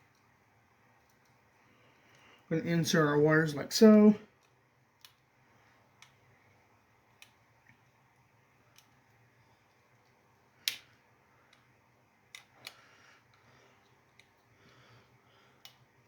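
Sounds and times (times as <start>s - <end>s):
small clicks and taps of wires: 0.0s - 2.4s, 4.3s - 16.0s.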